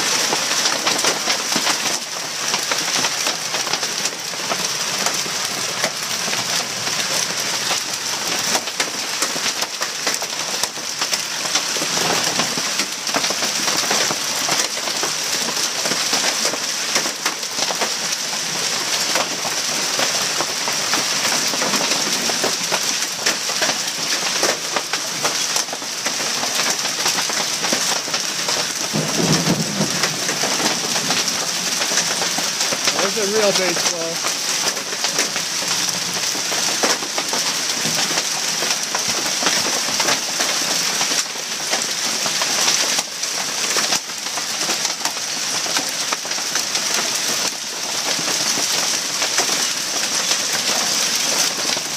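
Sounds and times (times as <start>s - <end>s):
hail and rain pelting down: 0.0s - 51.9s.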